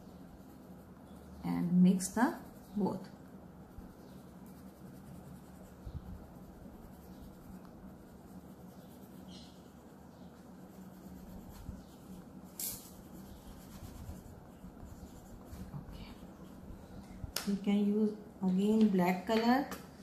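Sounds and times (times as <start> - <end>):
fingertip rubbing on paper: 0.0 - 16.8.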